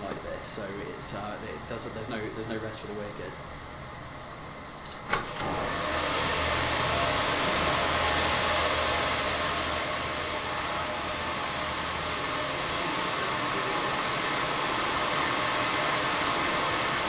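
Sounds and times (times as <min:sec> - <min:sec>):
server cooling fans rushing: 0:00.0 - 0:17.0.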